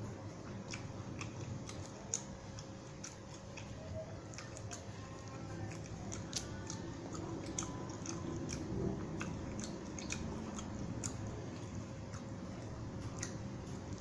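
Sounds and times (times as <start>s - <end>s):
person chewing food: 0.0s - 14.0s
wet mouth clicks and smacks: 0.5s - 14.0s.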